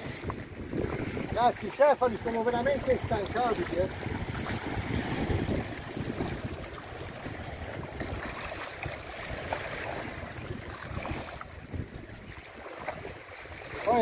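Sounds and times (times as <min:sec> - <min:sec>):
sea washing against shore: 0:00.0 - 0:14.0
wind buffeting microphone: 0:00.0 - 0:14.0.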